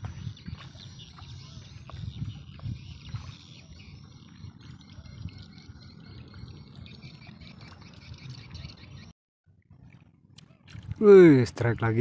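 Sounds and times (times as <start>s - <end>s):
wind buffeting microphone: 0.0s - 9.0s, 10.6s - 12.0s.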